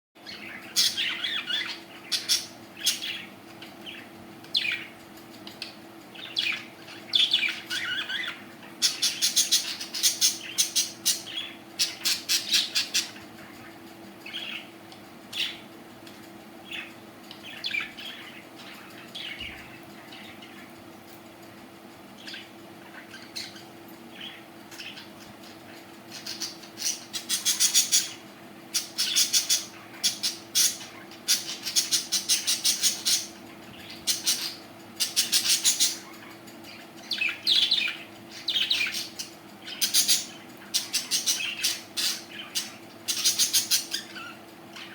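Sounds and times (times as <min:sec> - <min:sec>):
budgerigars chirping and squawking: 0:00.2 - 0:15.7, 0:16.6 - 0:20.7, 0:22.2 - 0:44.9.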